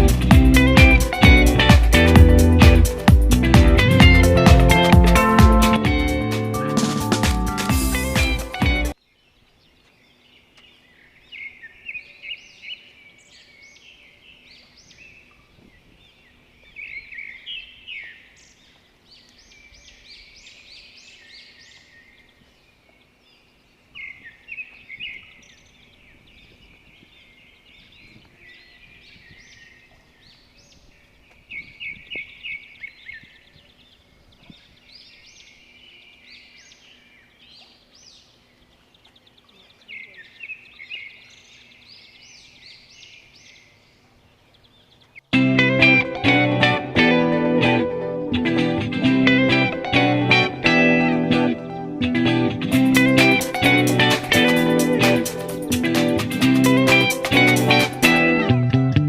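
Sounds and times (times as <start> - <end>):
birds chirping: 0.0 - 58.6
faint outdoor background noise: 0.0 - 59.0.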